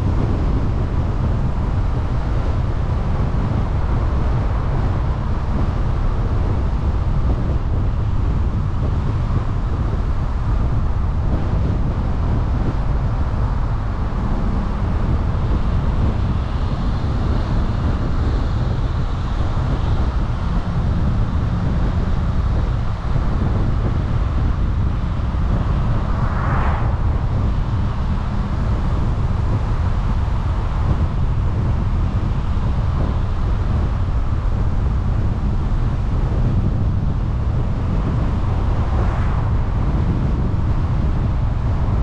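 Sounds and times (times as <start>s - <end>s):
road and tyre rumble: 0.0s - 42.0s
wind buffeting microphone: 0.0s - 42.0s.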